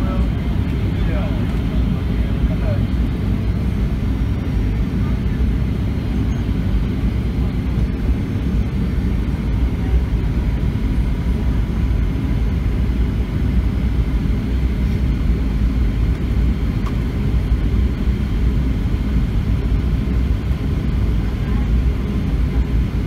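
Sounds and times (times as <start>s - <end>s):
airplane cabin engine rumble: 0.0s - 23.0s
faint steady whine: 0.0s - 23.0s.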